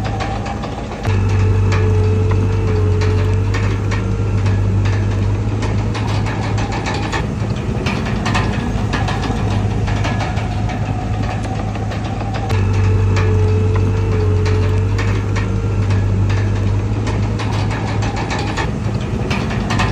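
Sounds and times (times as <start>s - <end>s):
bulldozer diesel engine running: 0.0s - 19.9s
metallic clicks and clanks: 0.0s - 19.9s.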